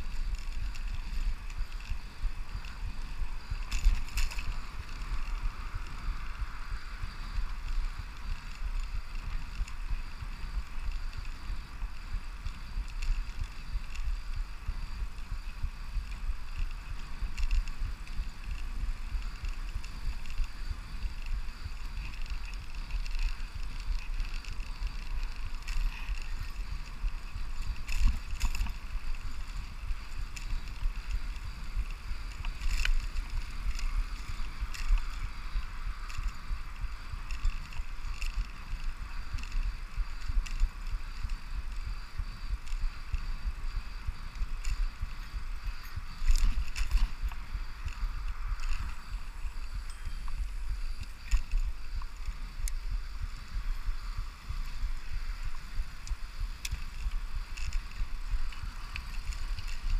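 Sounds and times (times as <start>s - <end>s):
bicycle clicks and rattles: 0.0s - 59.9s
tyre and road noise: 0.0s - 59.9s
wind rumble on microphone: 0.0s - 59.9s.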